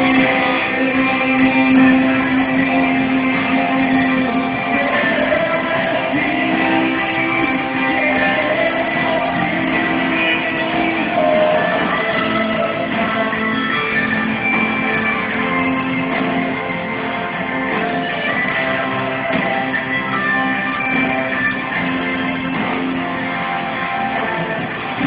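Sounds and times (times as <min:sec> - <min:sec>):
live band music led by guitar: 0:00.0 - 0:25.0.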